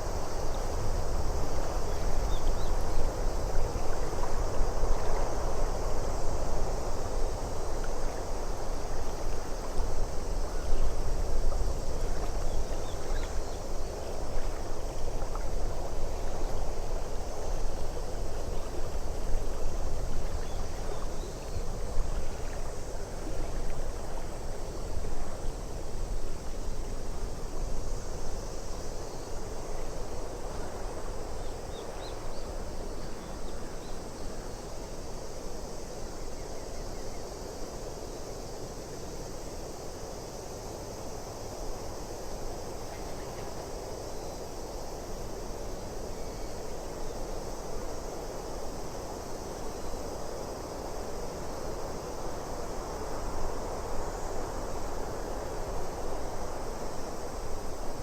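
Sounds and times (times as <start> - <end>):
rushing wind and water: 0.0 - 58.0.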